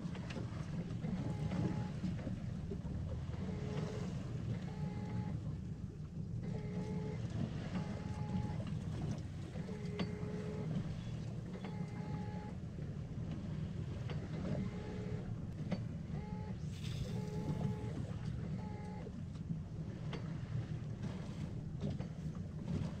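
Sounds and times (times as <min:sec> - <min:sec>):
wind and water rushing: 0:00.0 - 0:23.0.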